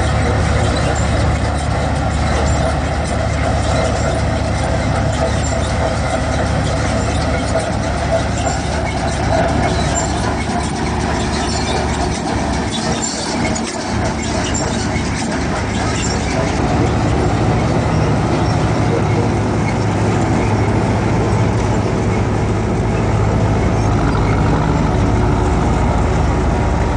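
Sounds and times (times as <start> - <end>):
combine harvester running: 0.0 - 26.9.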